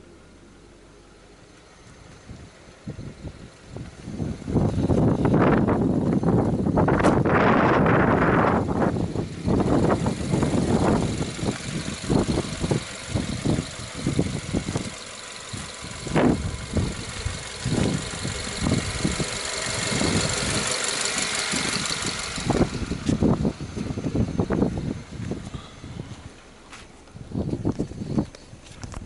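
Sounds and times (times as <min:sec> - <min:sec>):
car engine idling: 0:00.0 - 0:29.0
wind buffeting microphone: 0:02.2 - 0:26.4, 0:27.1 - 0:29.0.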